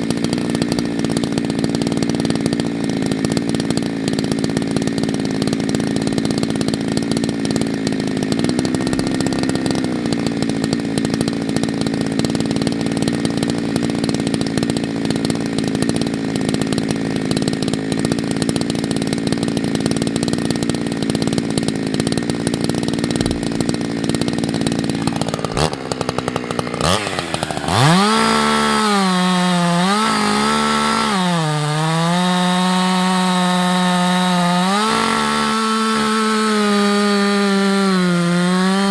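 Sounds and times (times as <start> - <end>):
chainsaw cutting at high revs: 0.0 - 38.9.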